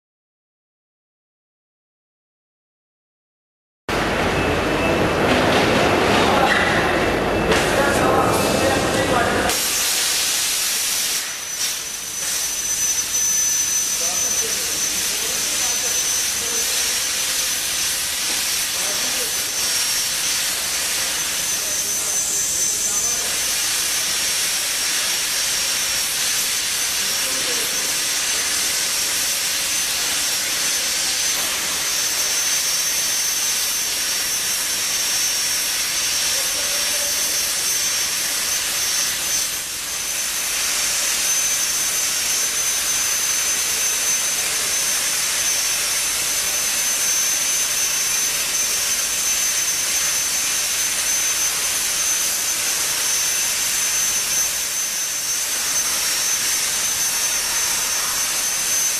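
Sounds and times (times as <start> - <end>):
plasma torch hissing with whine: 7.6 - 58.9.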